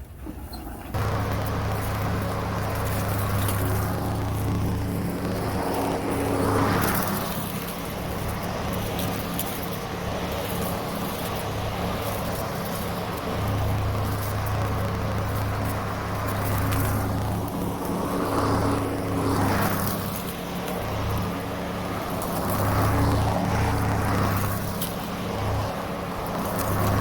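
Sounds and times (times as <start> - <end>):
electric lawn mower cutting grass: 0.9 - 27.0.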